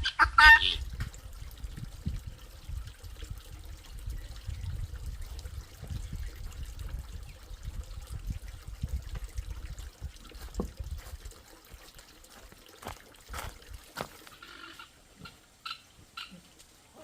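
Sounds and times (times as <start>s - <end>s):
water trickling and pouring: 0.4s - 17.0s.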